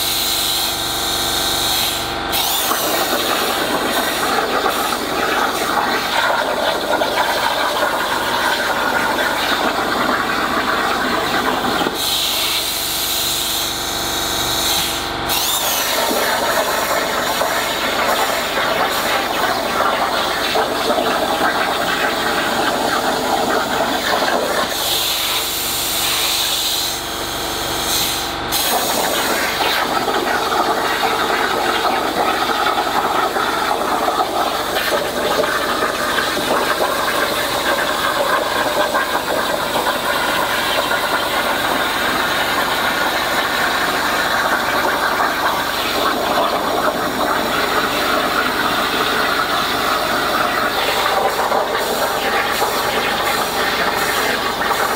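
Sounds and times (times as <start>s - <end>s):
plasma torch hissing: 1.7s - 12.7s, 14.6s - 25.4s, 27.9s - 54.9s.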